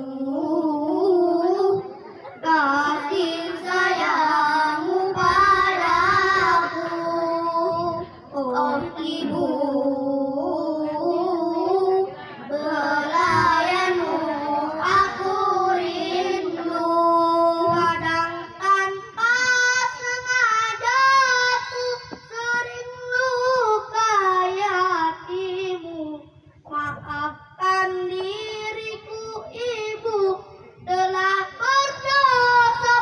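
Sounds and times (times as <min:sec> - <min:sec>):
child singing: 0:00.0 - 0:33.0.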